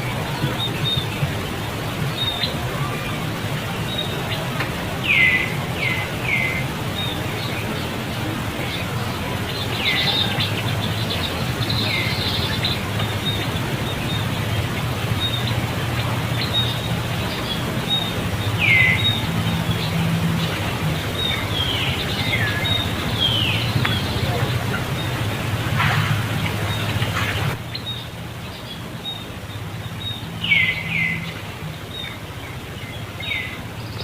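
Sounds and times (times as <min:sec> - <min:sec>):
downward sweeping bird calls: 0:00.0 - 0:34.0
low outdoor hum: 0:00.0 - 0:34.0.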